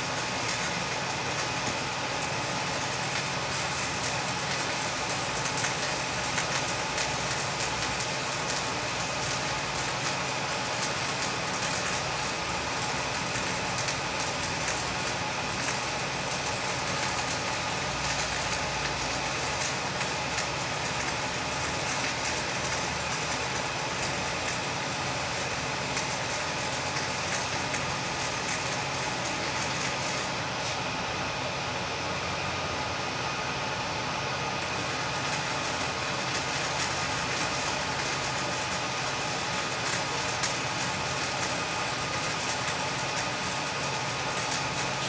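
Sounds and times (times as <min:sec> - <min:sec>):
arc welding crackling sizzle: 0:00.0 - 0:45.0
machinery hum: 0:00.0 - 0:45.0.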